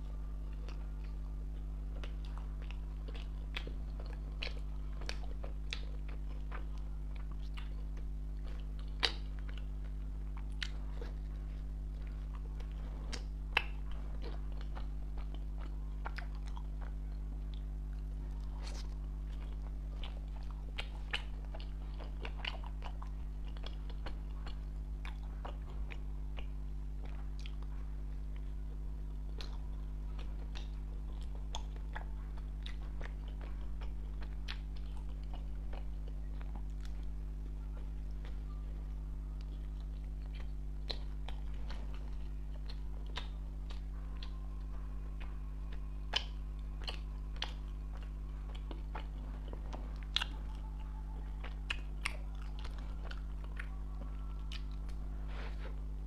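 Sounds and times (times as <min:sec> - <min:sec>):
biting and chewing bread: 0:00.0 - 0:56.0
steady low hum: 0:00.0 - 0:56.0.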